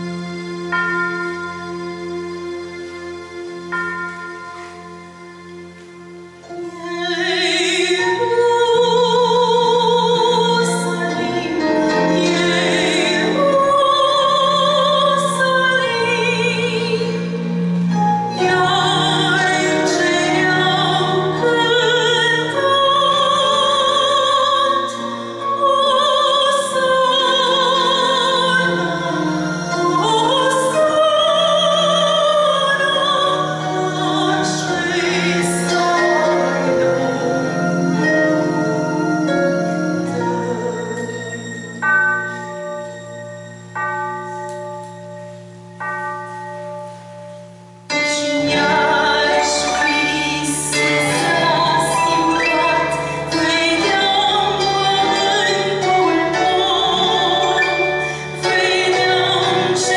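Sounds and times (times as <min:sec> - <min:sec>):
instrumental accompaniment: 0:00.0 - 0:59.9
woman singing with vibrato: 0:06.4 - 0:43.0, 0:47.9 - 0:59.9.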